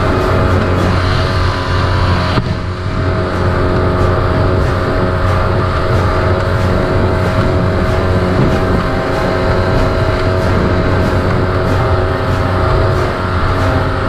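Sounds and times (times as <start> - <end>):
outboard motor droning: 0.0 - 14.0
water rushing past hull: 0.0 - 14.0
water slapping against hull: 0.0 - 14.0.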